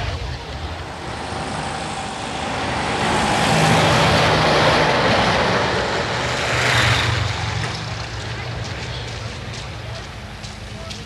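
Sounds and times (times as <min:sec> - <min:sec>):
heavy vehicle passing: 0:00.0 - 0:11.0.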